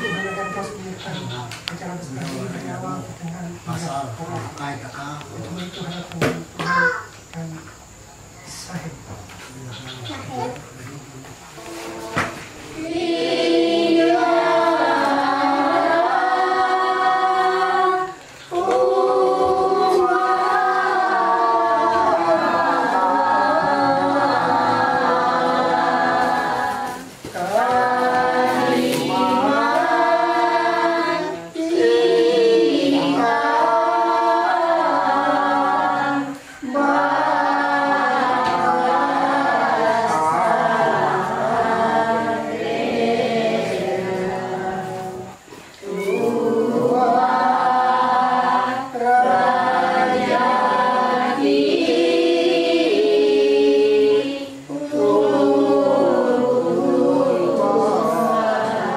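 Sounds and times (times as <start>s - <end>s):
congregation singing a hymn: 11.3s - 58.9s.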